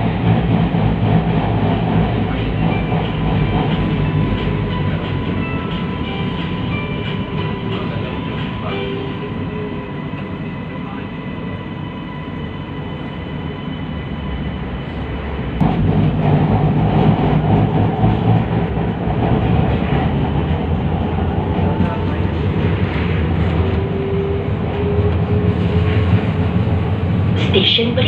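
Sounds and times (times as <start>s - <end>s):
train running noise: 0.0s - 28.0s.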